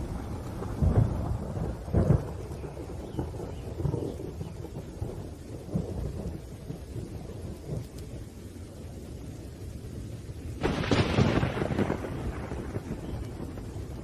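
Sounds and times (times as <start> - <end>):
sharp thunderclap: 0.0 - 7.9, 10.6 - 14.0
rain: 0.0 - 14.0
rolling thunder rumbles: 0.0 - 14.0.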